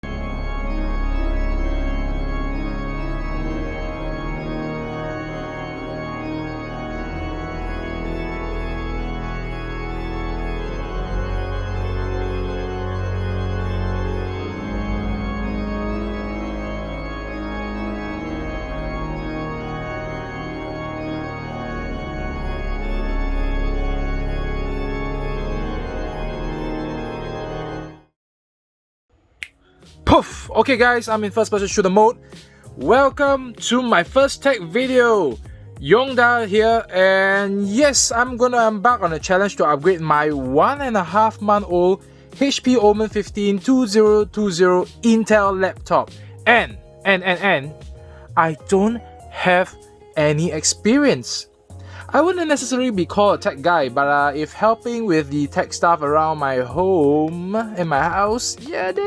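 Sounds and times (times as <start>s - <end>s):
intro music with bass chords: 0.0s - 28.1s, 29.9s - 43.4s, 44.0s - 54.2s, 55.6s - 59.0s.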